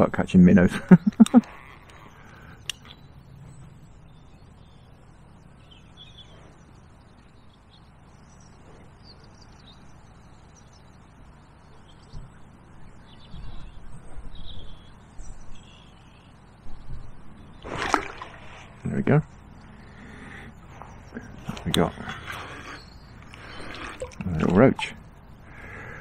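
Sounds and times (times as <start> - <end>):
riverside background noise: 0.0 - 26.0
bird chirps: 0.7 - 26.0.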